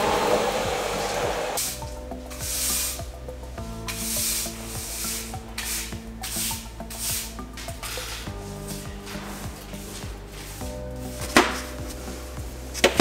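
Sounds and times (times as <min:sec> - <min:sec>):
broom sweeping concrete floor: 0:00.0 - 0:13.0.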